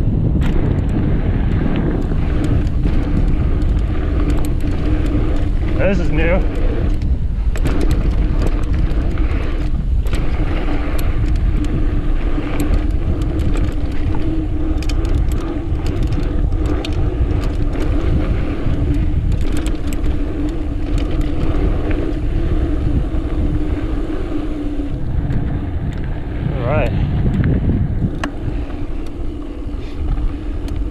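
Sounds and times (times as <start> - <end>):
bike rattles and clicks: 0.0 - 30.9
rear hub buzz: 0.0 - 30.9
tyres rumbling over dirt: 0.0 - 30.9
wind buffeting microphone: 0.0 - 30.9.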